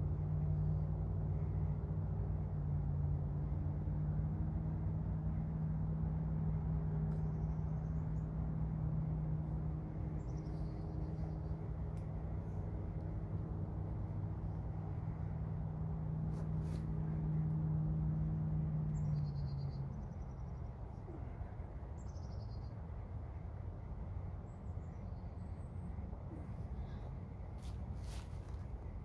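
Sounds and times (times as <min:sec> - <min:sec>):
distant engine hum: 0:00.0 - 0:29.0.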